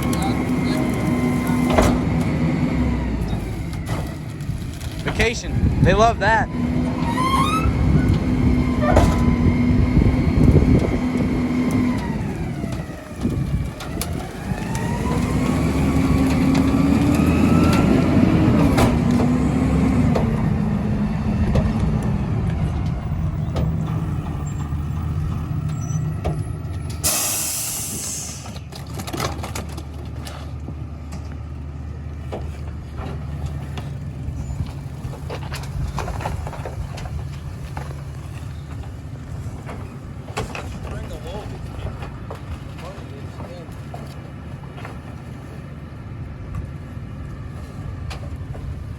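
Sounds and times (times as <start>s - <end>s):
garbage truck engine: 0.0s - 48.9s.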